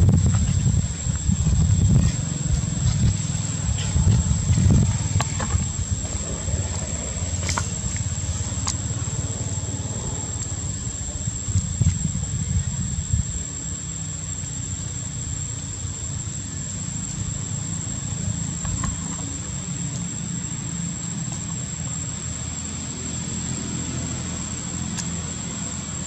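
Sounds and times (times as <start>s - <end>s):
constant high-pitched tone: 0.0s - 26.0s
low outdoor rumble: 0.0s - 26.0s.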